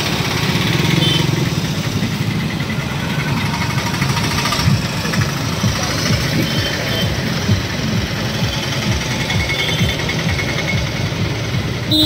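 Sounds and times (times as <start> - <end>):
busy street noise: 0.0 - 12.0
motorcycle engine idling: 0.0 - 12.0.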